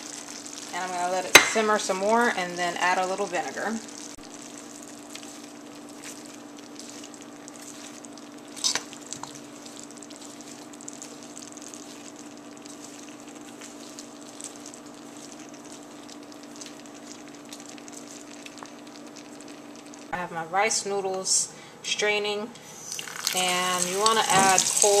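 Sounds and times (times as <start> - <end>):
food sizzling in a wok: 0.0 - 20.1, 22.7 - 25.0
wooden spoon stirring: 0.0 - 20.1
steady low hum: 0.0 - 25.0.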